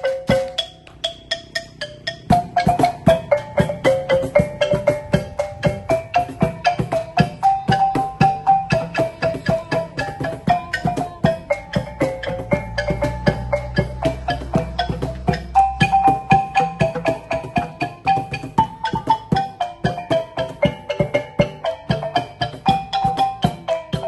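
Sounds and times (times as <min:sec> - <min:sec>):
bamboo tubes struck with sandals: 0:00.0 - 0:24.0
bamboo xylophone: 0:00.0 - 0:24.0
cajon drumming: 0:00.0 - 0:24.0.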